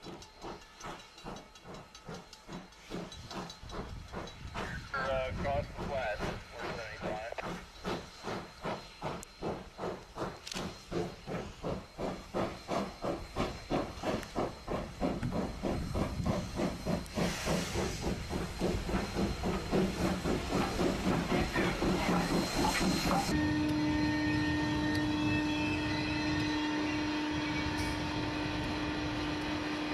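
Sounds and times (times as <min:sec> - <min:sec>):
steam locomotive chuffing: 0:00.0 - 0:29.9.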